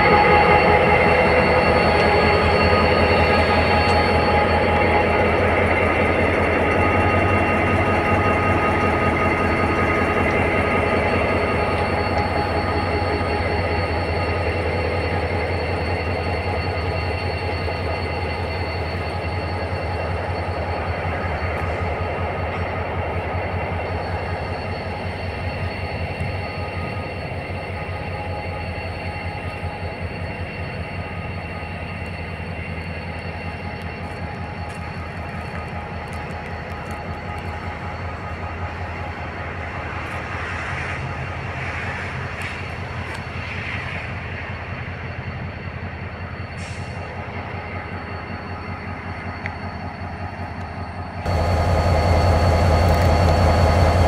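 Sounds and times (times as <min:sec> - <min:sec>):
high wheel squeal: 0:00.0 - 0:54.0
train wheels rumbling on rail: 0:00.0 - 0:54.0.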